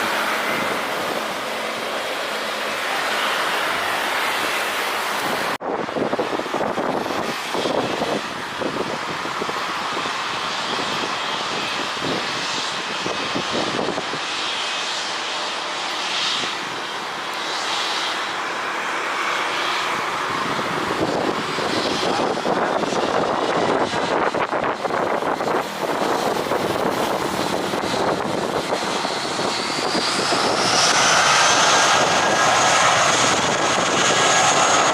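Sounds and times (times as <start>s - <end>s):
jet engines rushing: 0.0s - 34.9s
wind buffeting microphone: 0.0s - 34.9s.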